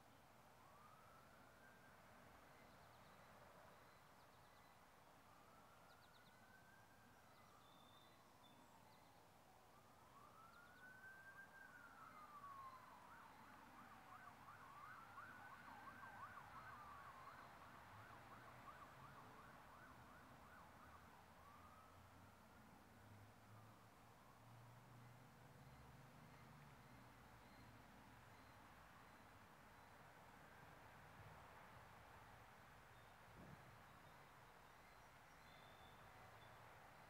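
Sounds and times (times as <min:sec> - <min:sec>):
faint siren wailing and yelping: 0:00.6 - 0:22.4, 0:23.1 - 0:32.0.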